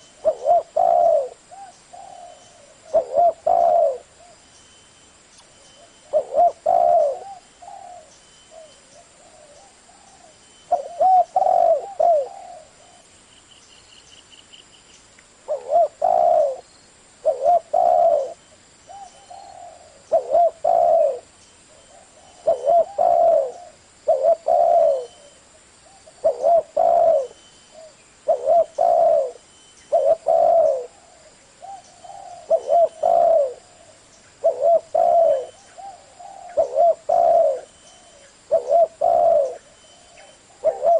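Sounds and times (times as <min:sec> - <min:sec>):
dove cooing: 0:00.0 - 0:04.4, 0:05.8 - 0:13.1, 0:15.5 - 0:40.9.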